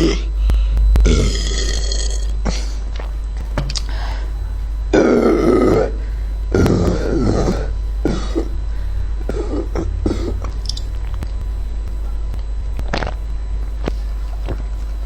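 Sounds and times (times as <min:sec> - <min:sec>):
woman making throat sounds: 0:00.0 - 0:00.4, 0:01.0 - 0:14.8
steady low hum: 0:00.0 - 0:15.0.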